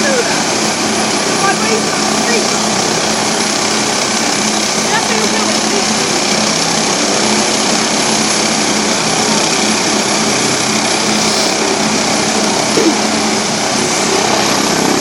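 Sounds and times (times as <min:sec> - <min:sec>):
helicopter engine and rotor noise: 0:00.0 - 0:15.0.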